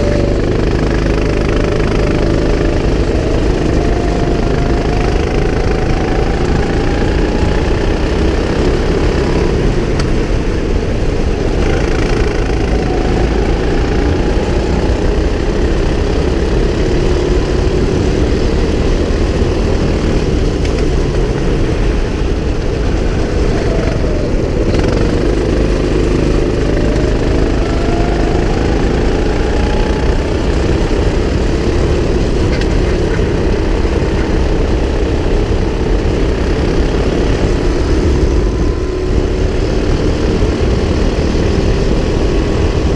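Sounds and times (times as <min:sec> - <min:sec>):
go-kart engine running hard: 0:00.0 - 0:42.9.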